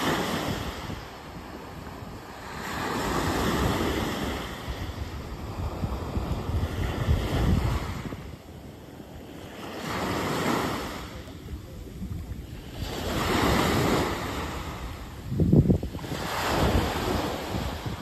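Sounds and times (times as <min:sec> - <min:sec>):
wind buffeting microphone: 0:00.0 - 0:09.3, 0:09.9 - 0:18.0
waves breaking on beach: 0:00.0 - 0:18.0.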